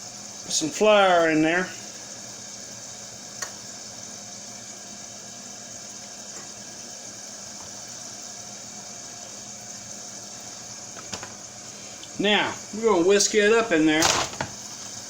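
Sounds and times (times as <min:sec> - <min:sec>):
grease sizzling in skillet: 0:00.0 - 0:15.0.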